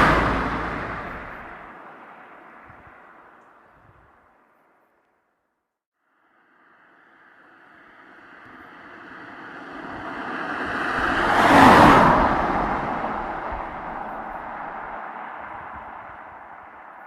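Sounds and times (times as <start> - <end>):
car passing by: 0.0 - 3.6, 6.2 - 17.0.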